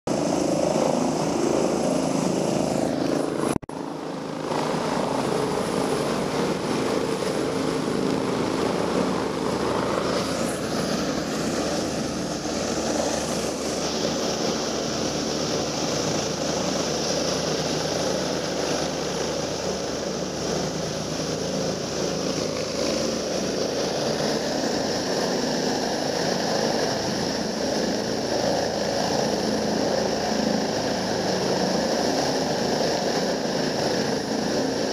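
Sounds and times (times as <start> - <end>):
helicopter rotor beating: 0.1 - 34.9
turbine whine: 0.1 - 34.9.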